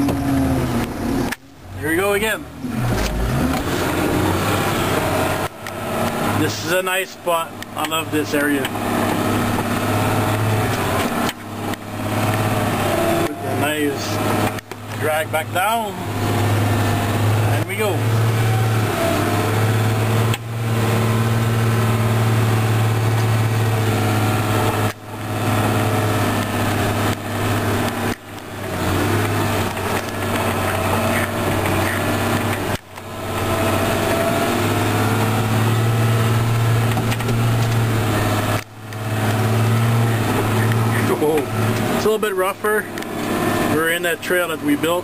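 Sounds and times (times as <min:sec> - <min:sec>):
tractor engine running under load: 0:00.0 - 0:45.0.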